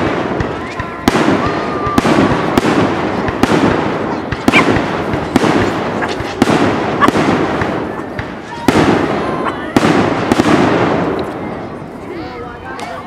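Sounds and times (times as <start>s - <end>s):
firework bangs: 0.0s - 11.9s
firework crackle: 0.0s - 13.0s.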